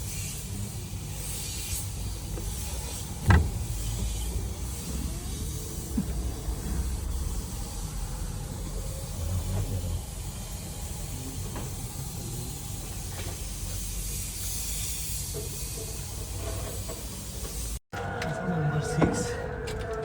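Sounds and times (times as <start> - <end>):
steam cleaner hissing: 0.0 - 17.8.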